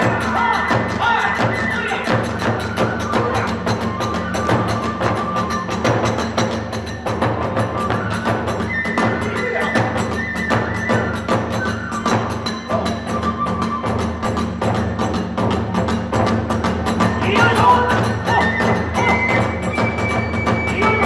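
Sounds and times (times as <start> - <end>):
bamboo flute high notes: 0.0 - 15.0, 17.0 - 21.0
drums beating fast: 0.0 - 21.0.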